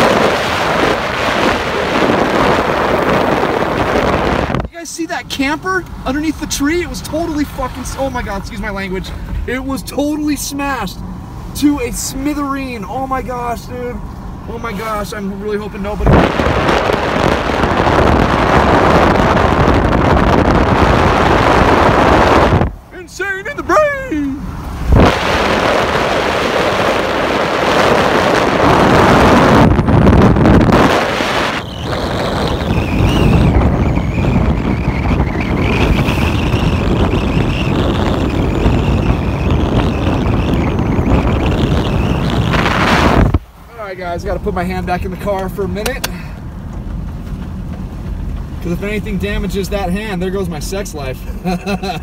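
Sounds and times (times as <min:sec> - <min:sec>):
wind buffeting microphone: 0:00.0 - 0:09.9, 0:13.8 - 0:49.6
car road noise: 0:00.0 - 0:52.0.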